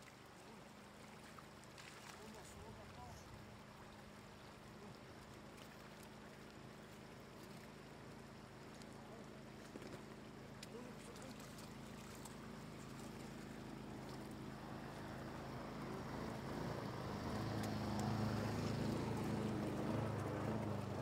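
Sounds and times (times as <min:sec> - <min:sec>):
floodwater running over ground: 0:00.0 - 0:21.0
low steady hum: 0:00.0 - 0:21.0.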